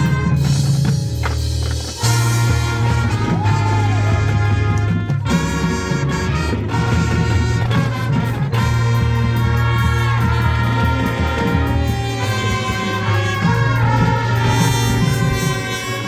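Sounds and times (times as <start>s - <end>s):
brass band playing held chords: 0.0s - 16.0s.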